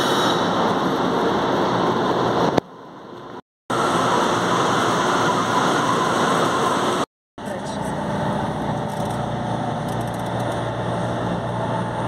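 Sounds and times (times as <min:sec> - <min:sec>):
train rushing noise: 0:00.0 - 0:12.0.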